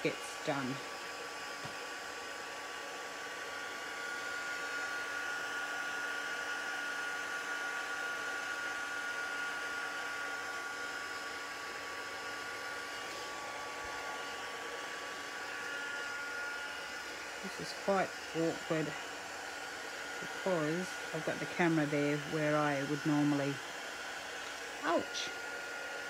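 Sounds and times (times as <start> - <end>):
heat tool blowing with motor whine: 0.0 - 26.0.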